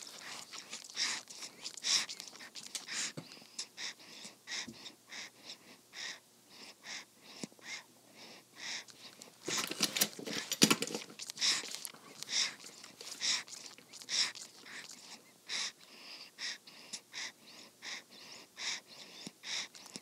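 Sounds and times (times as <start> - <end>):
baby sucking on a pacifier: 0.0 - 20.0.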